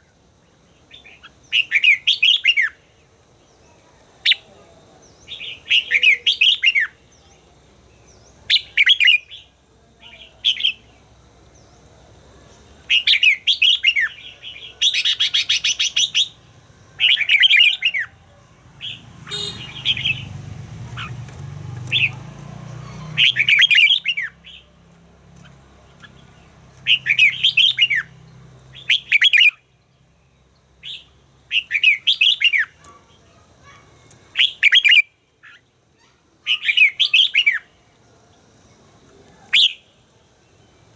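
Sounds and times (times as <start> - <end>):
bird warbling song: 3.5 - 37.7.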